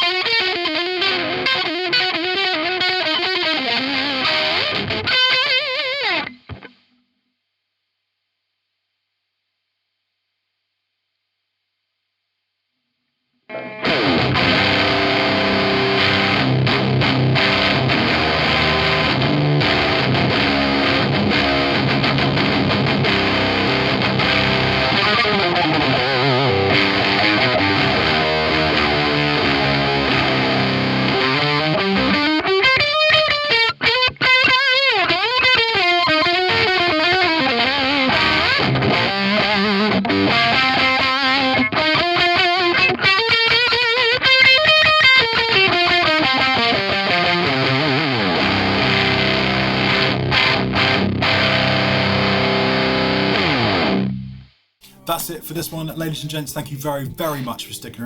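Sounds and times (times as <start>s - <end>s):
distorted electric guitar: 0.0s - 7.0s, 13.5s - 55.1s.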